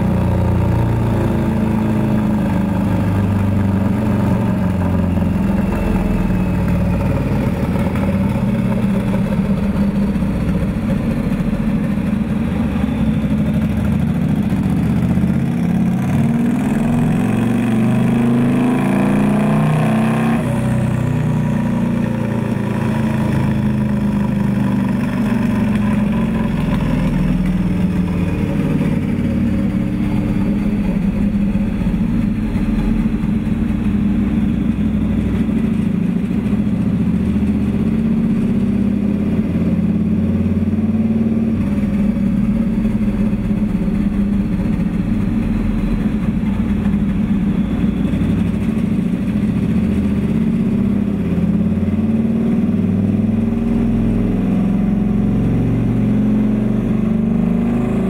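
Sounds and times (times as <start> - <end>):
high turbo whine: 0.0 - 58.0
motorcycle engine on dyno: 0.0 - 58.0.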